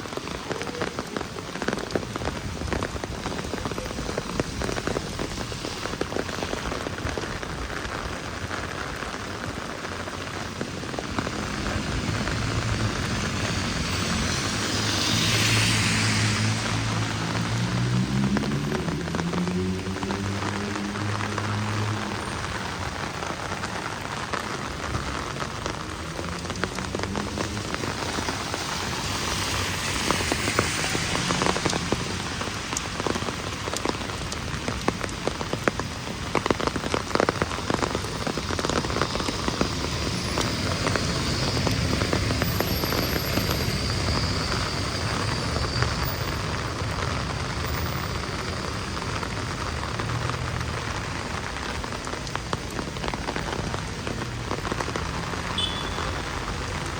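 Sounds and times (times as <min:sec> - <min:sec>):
heavy rain on street: 0:00.0 - 0:56.9.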